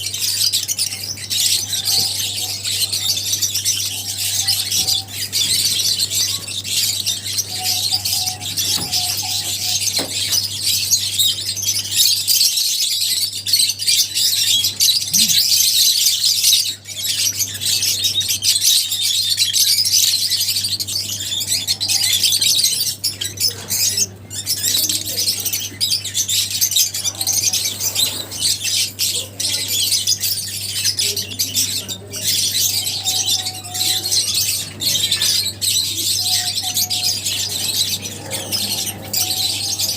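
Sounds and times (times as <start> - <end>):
birds chattering and squawking: 0.0 - 39.9.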